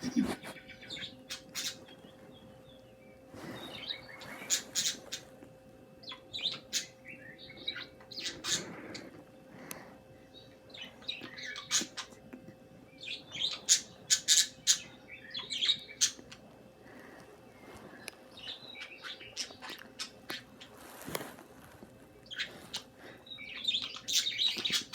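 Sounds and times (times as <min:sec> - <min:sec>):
pet birds chirping: 0:00.0 - 0:21.3, 0:21.9 - 0:24.9.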